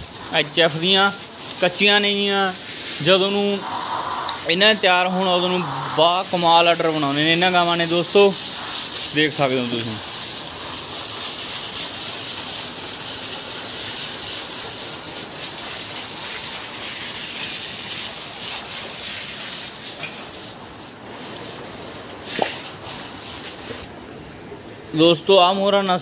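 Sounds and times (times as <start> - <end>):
water hose spraying: 0.0 - 23.9.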